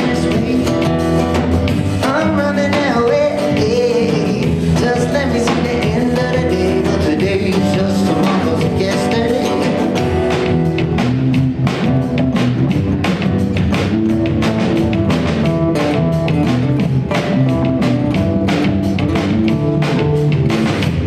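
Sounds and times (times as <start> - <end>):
drum kit beat: 0.0 - 21.0
electric guitar: 0.0 - 21.0.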